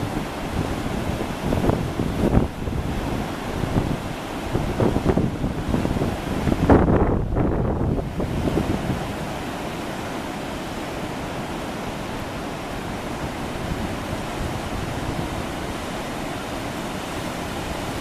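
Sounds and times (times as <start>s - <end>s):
river rushing over boulders: 0.0s - 18.0s.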